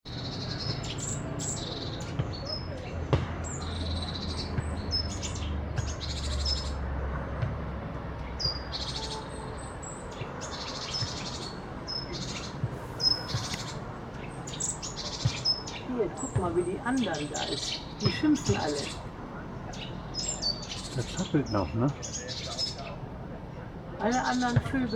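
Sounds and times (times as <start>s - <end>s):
songbirds alarm calls: 0.1s - 6.9s, 8.0s - 24.9s.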